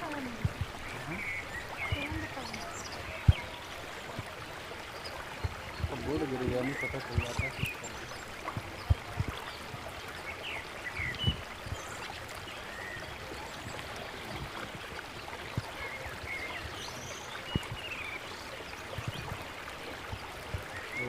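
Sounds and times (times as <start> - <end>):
flowing water rushing: 0.0 - 21.0
small birds chirping: 0.0 - 21.0.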